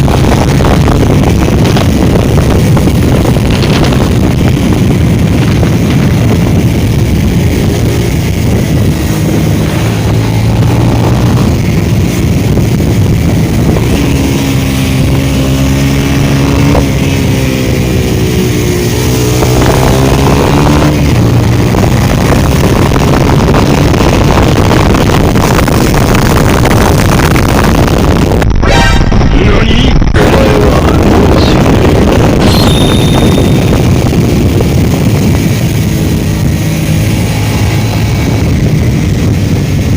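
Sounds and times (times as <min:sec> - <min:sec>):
motorcycle engine: 0:00.0 - 0:29.2, 0:30.1 - 0:39.9
wind noise on microphone: 0:00.0 - 0:39.9.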